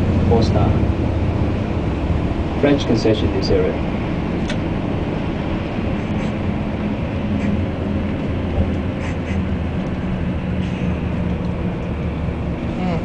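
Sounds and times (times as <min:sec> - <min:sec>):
bus engine hum and road rumble: 0:00.0 - 0:13.0.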